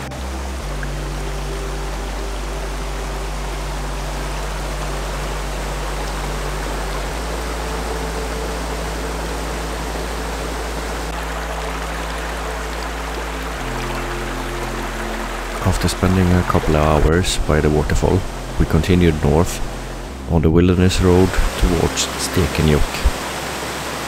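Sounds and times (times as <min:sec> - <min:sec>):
soft background music: 0:00.0 - 0:24.0
stream water rushing over rocks: 0:00.0 - 0:24.0.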